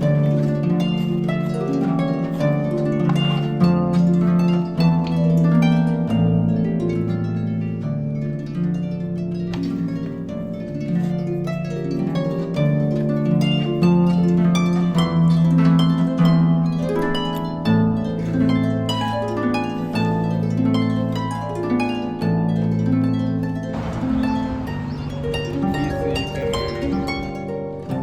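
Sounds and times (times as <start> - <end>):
plucked harp melody: 0.0 - 28.0.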